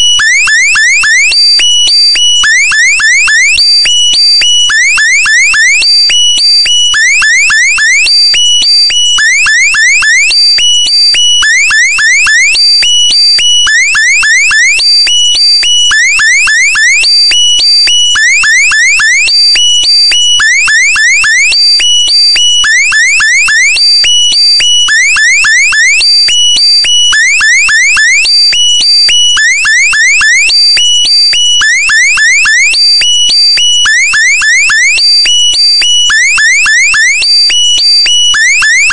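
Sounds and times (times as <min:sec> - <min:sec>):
electronic alarm beeping: 0:00.0 - 0:38.9.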